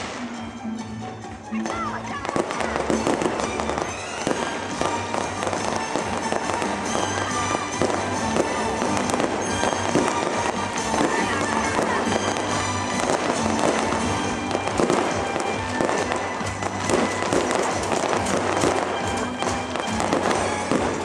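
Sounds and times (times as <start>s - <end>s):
fireworks popping and crackling: 0.0s - 0.6s, 1.4s - 21.0s
steady music: 0.0s - 21.0s.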